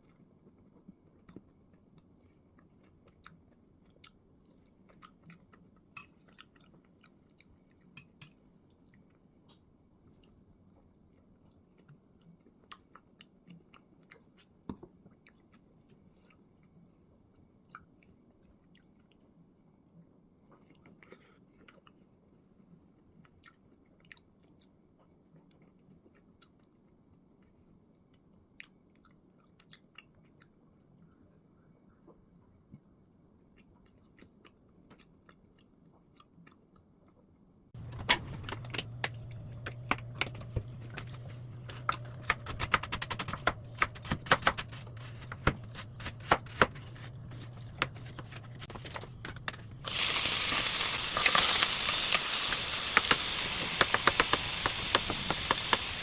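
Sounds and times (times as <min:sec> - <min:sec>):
chewing soft bread: 0:00.0 - 0:56.0
faint low room hum: 0:00.0 - 0:56.0.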